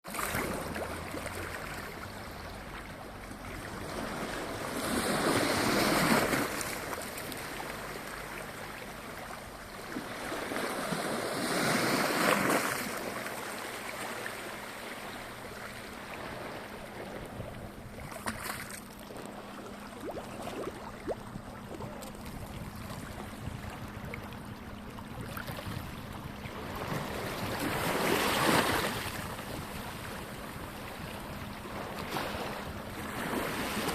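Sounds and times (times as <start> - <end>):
gentle sea waves washing in: 0.1 - 33.9.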